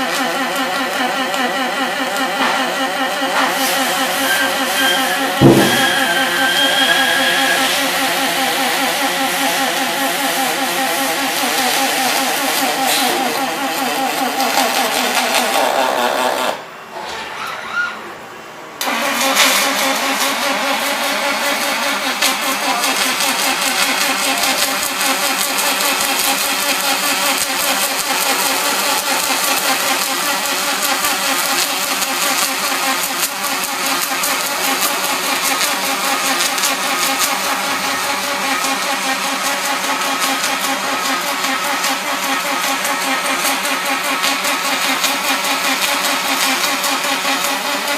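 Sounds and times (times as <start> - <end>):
welding arc buzzing: 0.0 - 16.6, 18.8 - 47.9.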